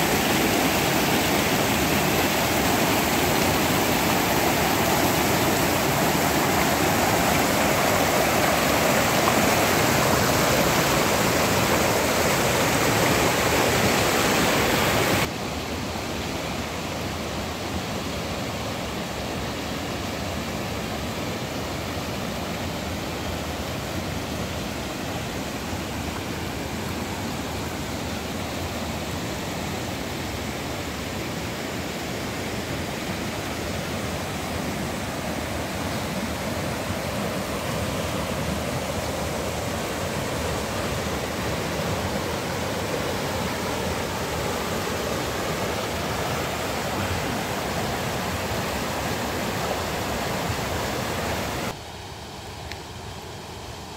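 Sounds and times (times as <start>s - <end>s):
river water rushing over rocks: 0.0s - 53.9s.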